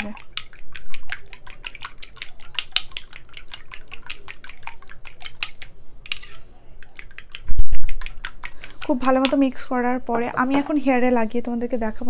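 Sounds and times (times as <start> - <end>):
spoon stirring in a bowl: 0.0 - 11.2.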